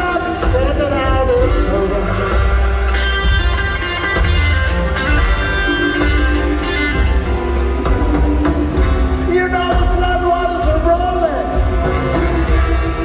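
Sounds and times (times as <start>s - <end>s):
blues band playing: 0.0s - 13.0s.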